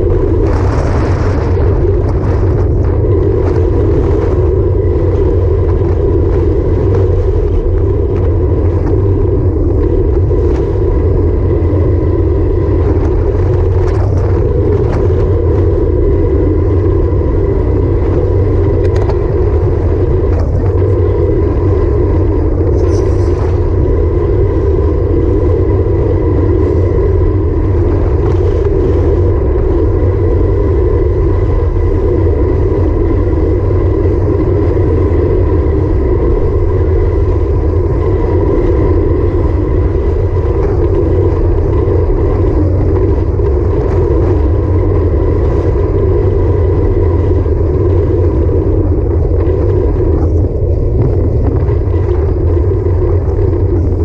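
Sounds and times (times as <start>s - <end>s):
road noise: 0.0s - 54.0s
wind rush on microphone: 0.0s - 54.0s.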